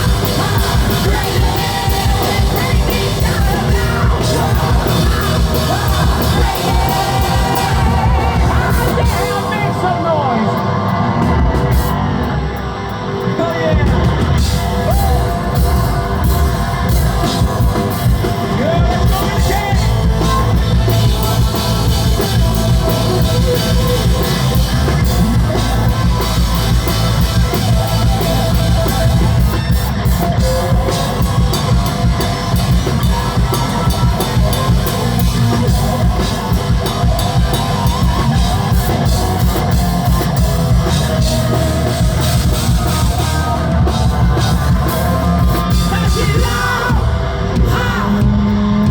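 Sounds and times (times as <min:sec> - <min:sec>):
drum kit pounding: 0:00.0 - 0:48.9
rock band playing live: 0:00.0 - 0:48.9.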